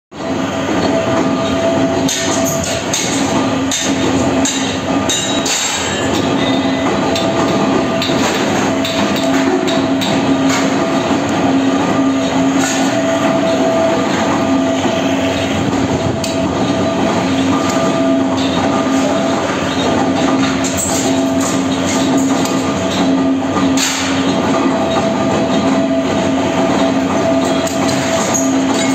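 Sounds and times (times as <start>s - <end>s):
foundry machinery roaring: 0.1s - 28.9s.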